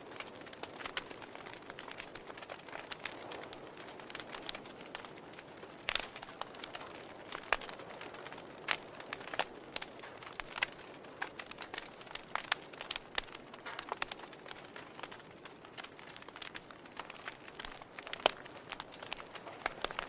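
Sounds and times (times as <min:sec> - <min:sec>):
campfire pops and snaps: 0:00.0 - 0:20.0
soft fire hiss: 0:00.0 - 0:20.0.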